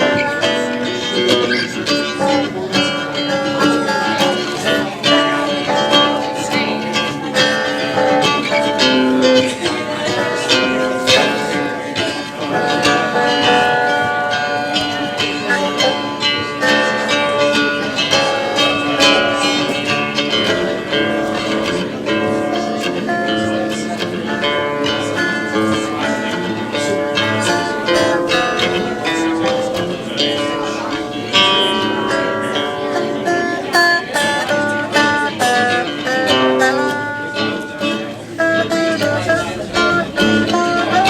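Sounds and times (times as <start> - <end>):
acoustic guitar picking: 0.0 - 41.0.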